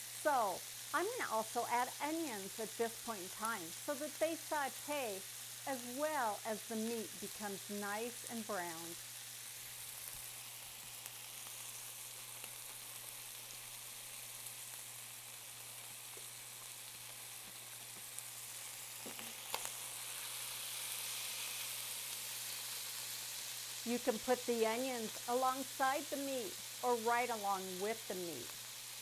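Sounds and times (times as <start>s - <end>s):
meat sizzling in a skillet: 0.0s - 29.0s.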